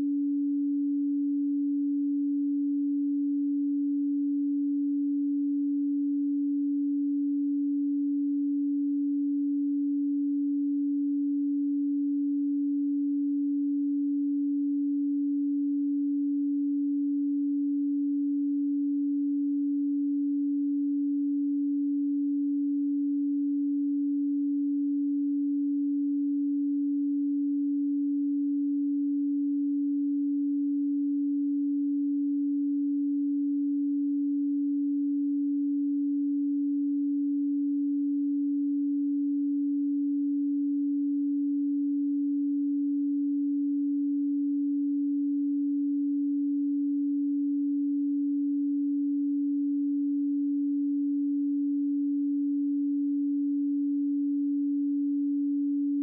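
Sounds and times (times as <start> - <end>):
steady sine tone: 0.0 - 56.0.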